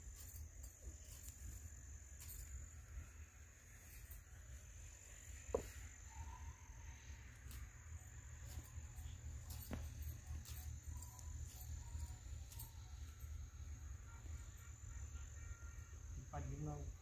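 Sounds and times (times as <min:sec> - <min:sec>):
high-pitched insect drone: 0:00.0 - 0:17.0
faint chirps: 0:00.1 - 0:17.0.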